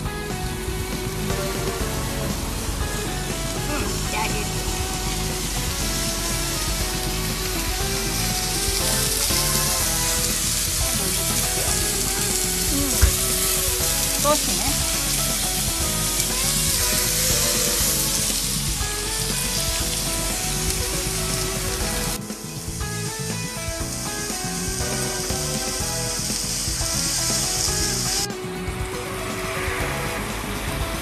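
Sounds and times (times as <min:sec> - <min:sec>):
background music: 0:00.0 - 0:31.0
steak sizzling on hot plate: 0:00.1 - 0:28.3.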